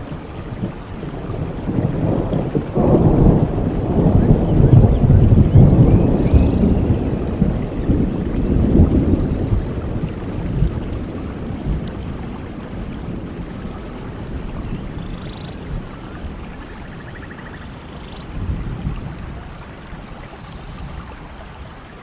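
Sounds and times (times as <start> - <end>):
low roll of thunder: 0.0 - 21.7
steady rain falling: 0.0 - 22.0.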